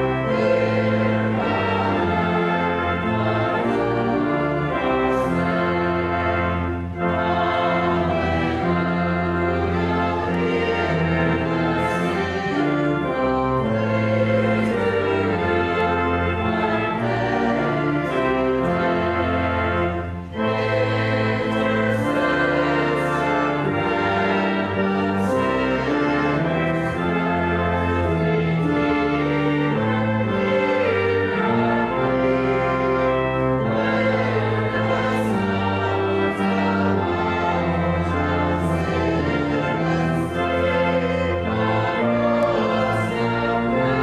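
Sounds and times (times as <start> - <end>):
pipe organ playing chords: 0.0 - 44.0.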